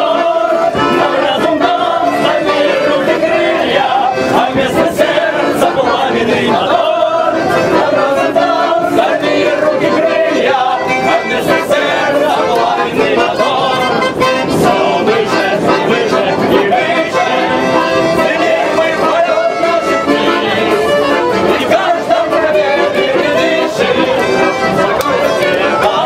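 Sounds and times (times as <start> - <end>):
group singing: 0.0 - 26.0.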